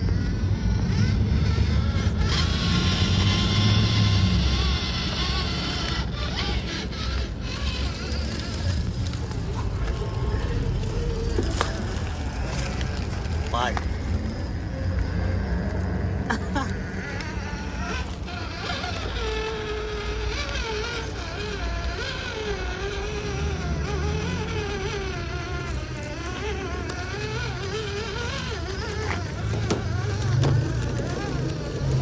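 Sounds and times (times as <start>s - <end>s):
electric motor whining: 0.0s - 32.0s.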